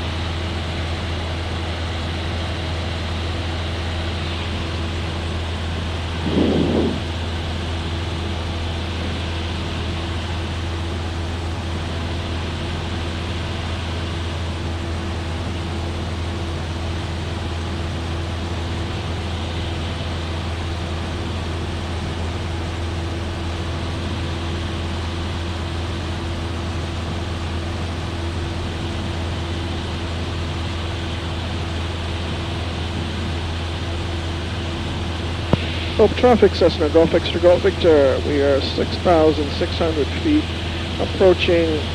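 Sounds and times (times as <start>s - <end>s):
airplane engine drone from cabin: 0.0s - 41.9s.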